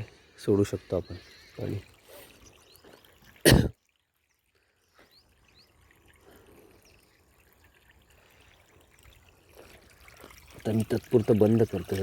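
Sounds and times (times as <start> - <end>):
water trickling from hose: 0.0 - 12.0.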